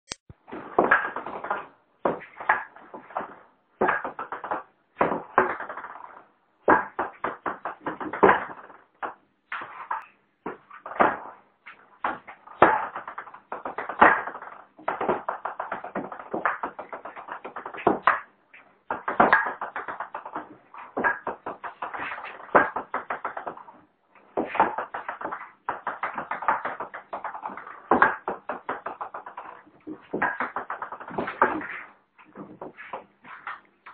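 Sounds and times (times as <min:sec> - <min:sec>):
ping-pong ball bouncing: 0:00.8 - 0:18.3, 0:18.9 - 0:33.9.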